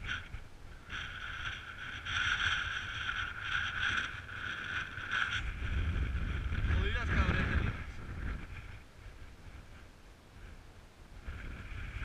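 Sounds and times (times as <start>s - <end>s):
mountain bike tyres rolling: 0.0s - 12.0s
strong wind rushing: 0.0s - 12.0s.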